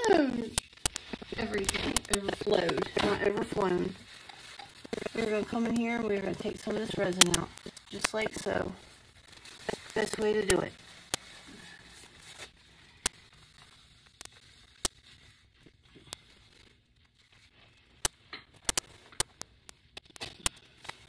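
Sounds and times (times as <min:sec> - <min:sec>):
paper towel crinkling: 0:00.0 - 0:21.0.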